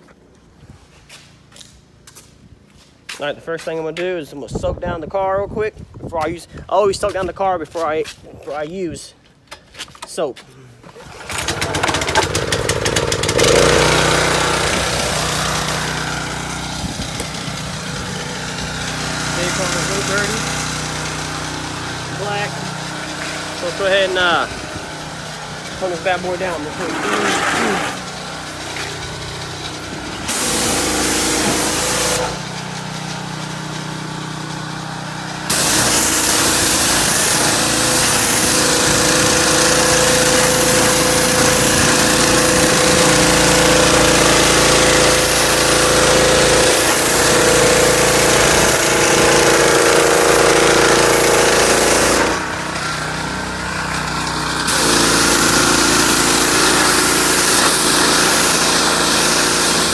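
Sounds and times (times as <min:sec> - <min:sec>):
pressure washer engine running: 0:10.9 - 0:59.9
high-pressure water spray hissing: 0:11.9 - 0:59.9.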